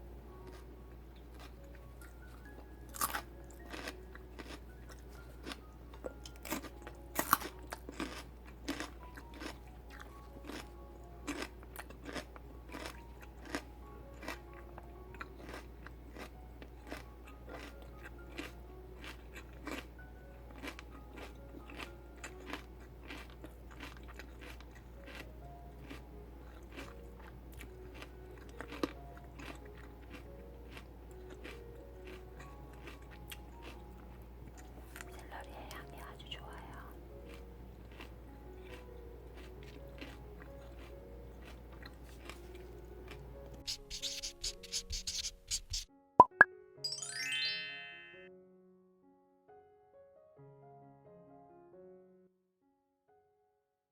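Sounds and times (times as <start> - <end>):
celery crunching while chewed: 0.3 - 45.9.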